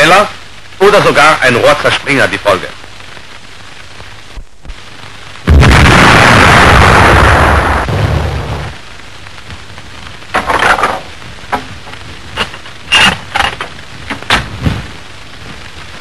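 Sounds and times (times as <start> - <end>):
old film soundtrack hiss: 0.0 - 16.0.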